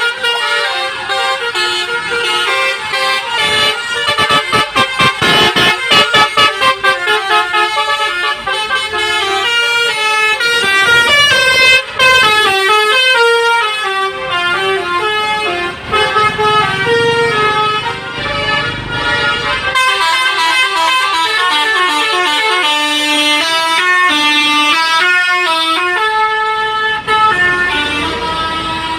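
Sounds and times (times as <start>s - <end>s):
low rumble of bus: 0.0s - 28.9s
multi-tone musical air horn: 0.0s - 28.9s.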